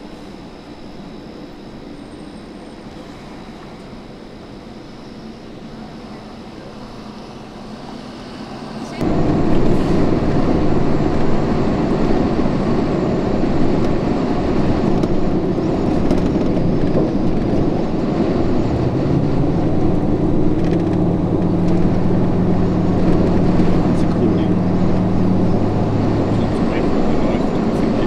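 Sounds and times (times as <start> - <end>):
low engine hum: 0.0 - 28.0
road noise inside car: 0.0 - 28.0.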